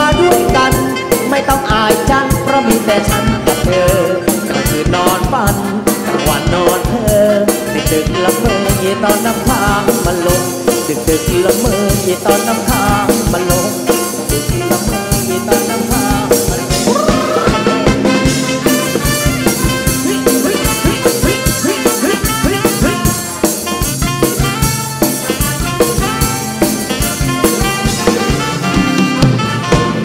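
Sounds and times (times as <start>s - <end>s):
live band dance music: 0.0s - 30.0s.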